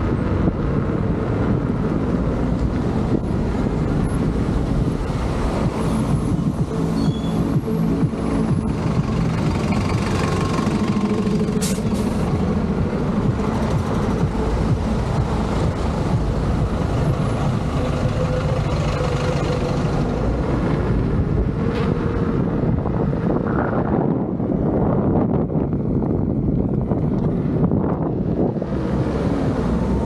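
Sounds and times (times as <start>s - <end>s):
unicycle tire rumbling hum: 0.0s - 30.0s.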